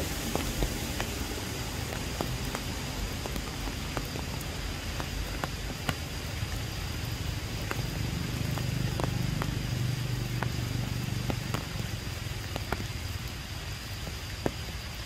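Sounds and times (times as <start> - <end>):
rain falling through foliage: 0.0 - 15.0
raindrops ticking close by: 0.0 - 15.0.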